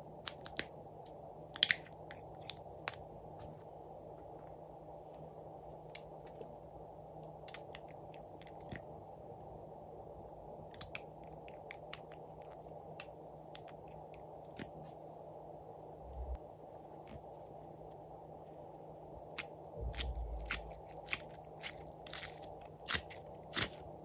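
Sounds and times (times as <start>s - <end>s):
steady low hiss: 0.0s - 24.0s.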